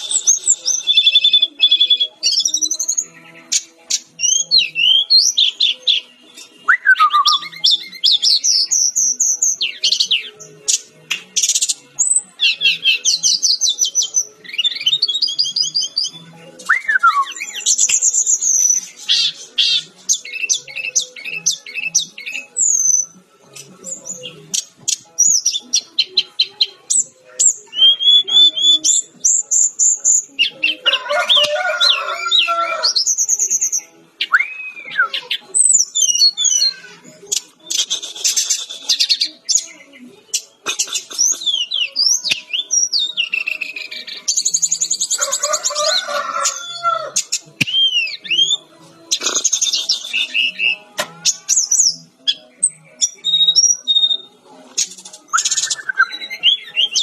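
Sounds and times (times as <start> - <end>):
flycatcher singing: 0.0 - 57.0.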